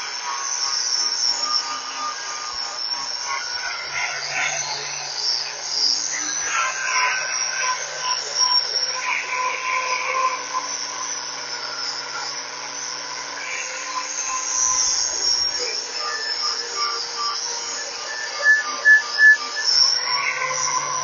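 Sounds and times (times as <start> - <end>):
angle grinder stripping paint: 0.0 - 21.0.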